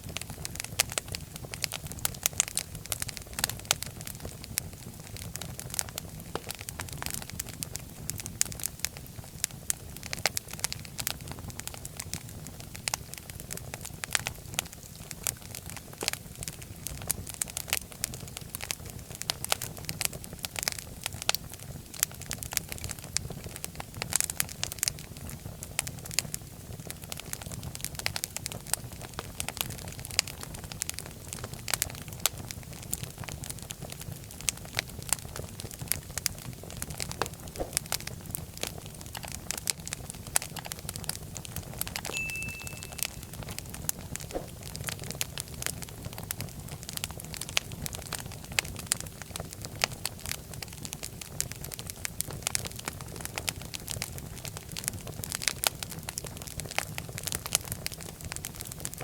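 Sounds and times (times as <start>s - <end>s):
low rumble of flames: 0.0s - 42.1s, 43.1s - 59.0s
wood fire crackling and popping: 0.0s - 59.0s.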